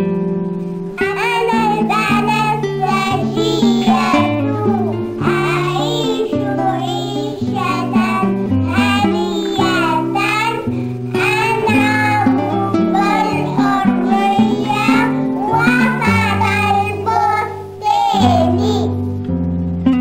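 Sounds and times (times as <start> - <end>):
instrumental accompaniment: 0.0 - 20.0
girls singing together: 1.0 - 19.1.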